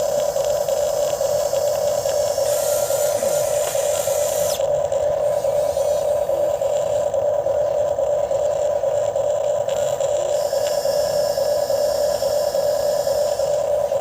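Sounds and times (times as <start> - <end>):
hydraulic pump whine: 0.0 - 14.0.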